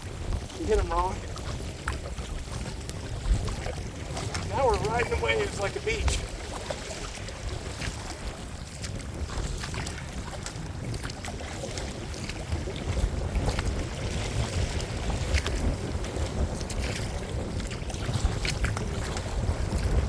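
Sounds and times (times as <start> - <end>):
waves slapping against kayak: 0.0 - 20.0
wind buffeting microphone: 0.0 - 20.0.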